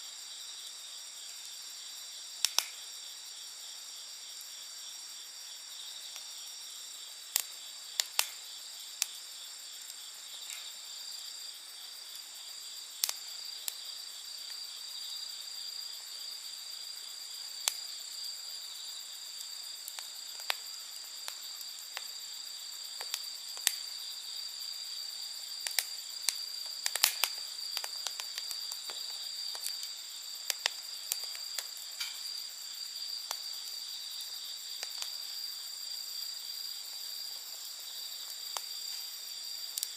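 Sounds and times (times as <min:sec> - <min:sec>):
insect chorus: 0:00.0 - 0:39.9
wood fire crackling: 0:00.2 - 0:39.9.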